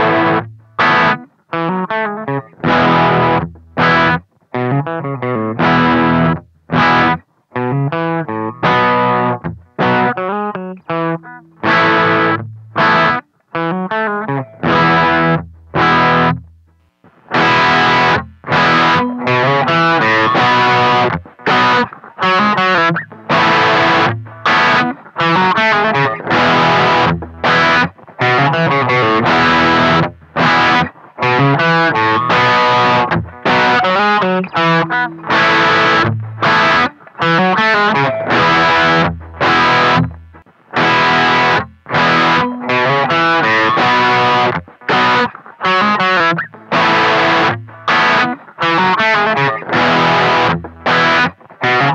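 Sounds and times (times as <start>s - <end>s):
distorted electric guitar: 0.0s - 51.9s.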